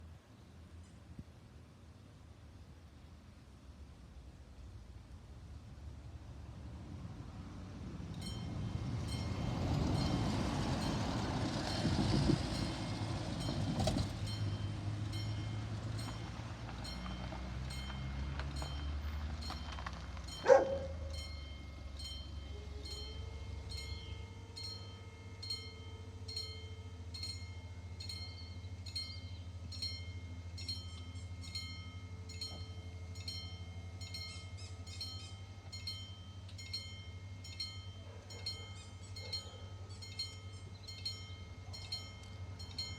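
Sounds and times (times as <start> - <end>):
diesel railcar passing: 0.0 - 42.9
level crossing warning bells: 8.2 - 42.9.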